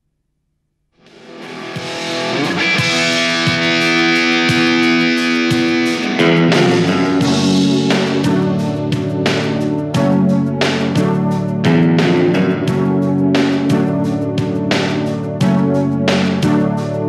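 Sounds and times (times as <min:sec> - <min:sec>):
guitar-led background music: 0:01.0 - 0:17.0.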